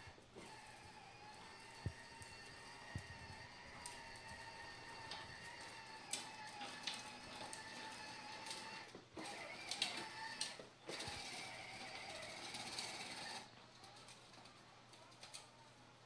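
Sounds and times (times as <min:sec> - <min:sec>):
toy electric motor whirring: 0:00.0 - 0:15.8.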